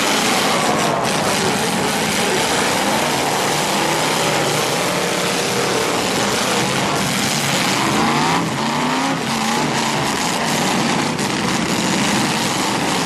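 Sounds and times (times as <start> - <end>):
car engines revving hard: 0.0 - 13.0
rising engine whines: 0.0 - 13.0.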